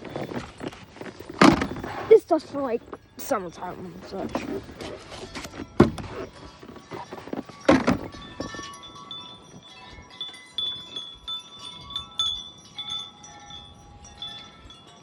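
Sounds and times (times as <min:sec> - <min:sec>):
wind chimes ringing: 0:01.7 - 0:15.0.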